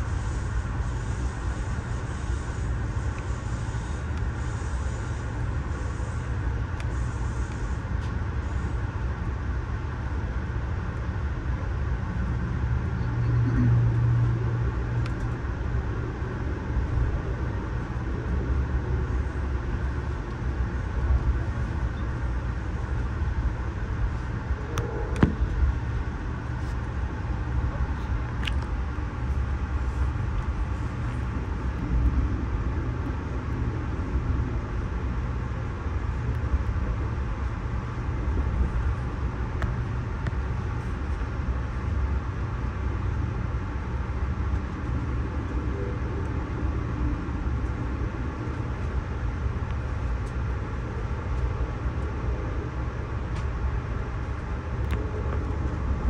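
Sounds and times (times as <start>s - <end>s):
low hum: 0.0s - 56.0s
train coach low rumble: 0.0s - 56.0s.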